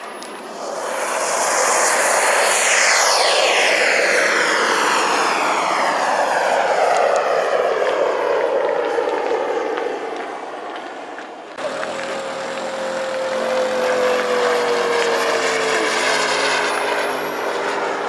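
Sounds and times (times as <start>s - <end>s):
model jet turbine whine: 0.0s - 18.0s.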